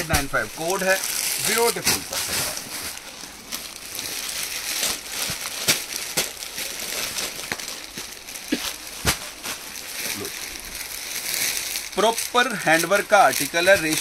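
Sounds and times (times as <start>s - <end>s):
cloth rustling: 0.0s - 14.0s
plastic packaging crinkling: 0.0s - 14.0s.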